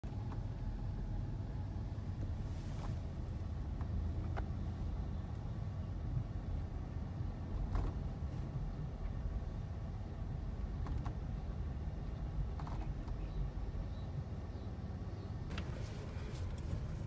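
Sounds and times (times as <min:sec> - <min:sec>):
car engine low rumble inside cabin: 0:00.0 - 0:17.0.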